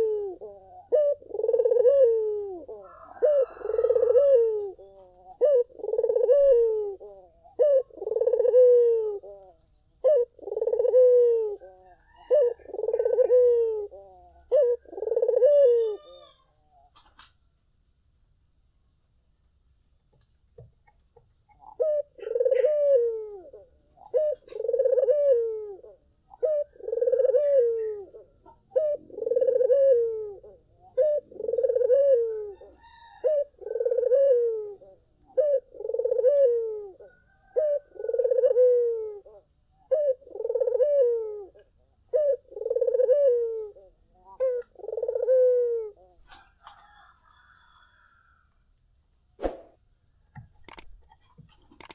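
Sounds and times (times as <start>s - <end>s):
dove cooing: 0.0s - 17.4s, 21.5s - 48.3s.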